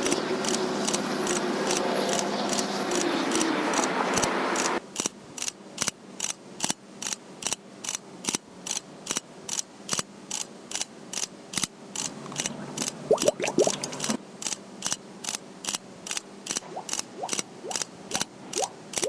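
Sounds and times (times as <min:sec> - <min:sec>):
sharp mechanical clicks: 0:00.0 - 0:19.0.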